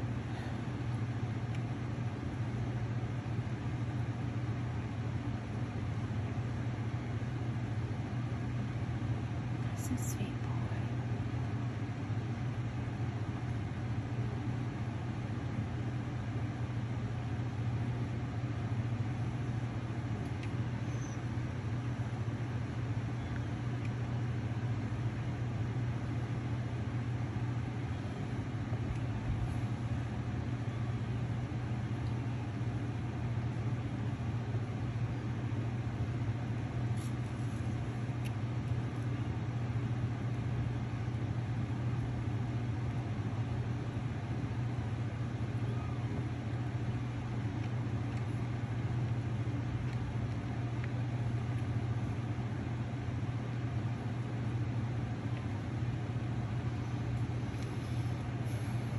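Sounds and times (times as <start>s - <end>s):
low machine hum: 0.0s - 58.9s.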